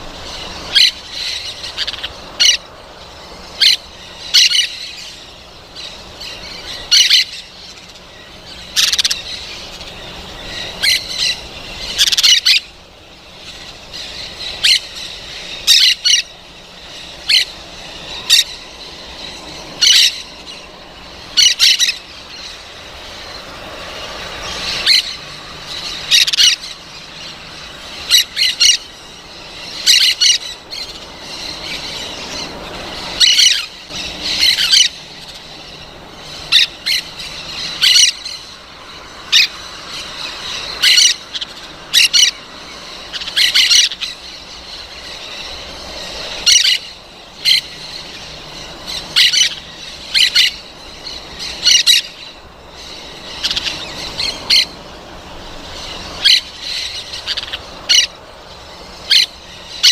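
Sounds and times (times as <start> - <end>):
parrot squawking: 0.2 - 12.7, 13.3 - 23.5, 24.2 - 54.9, 55.5 - 58.2, 58.8 - 59.9.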